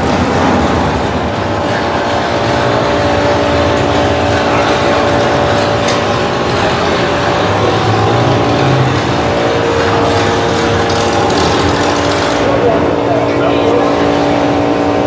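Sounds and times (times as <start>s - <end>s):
motor vehicle engine droning: 0.0s - 15.0s.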